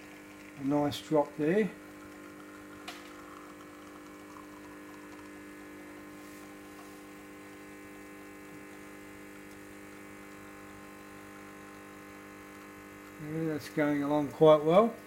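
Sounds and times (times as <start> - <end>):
espresso machine pump humming: 0.0 - 15.0.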